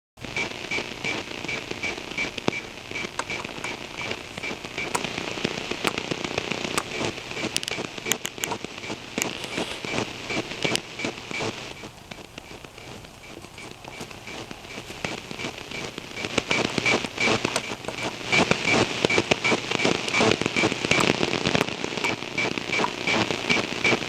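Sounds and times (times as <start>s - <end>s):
crackling radio static: 0.2s - 24.0s.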